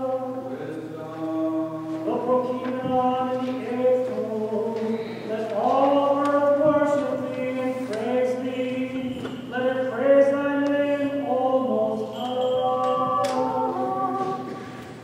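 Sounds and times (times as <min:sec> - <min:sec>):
choir singing a cappella chant: 0:00.0 - 0:15.0.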